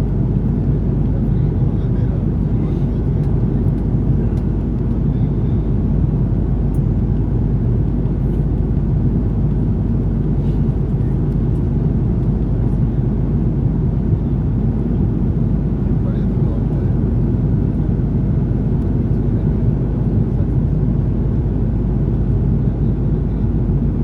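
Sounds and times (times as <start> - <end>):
airliner cabin engine roar: 0.0 - 24.0.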